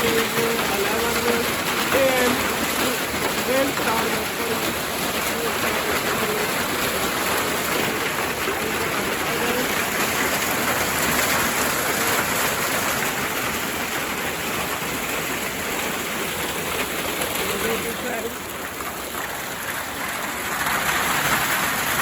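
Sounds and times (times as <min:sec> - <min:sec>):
hail and rain pelting down: 0:00.0 - 0:22.0.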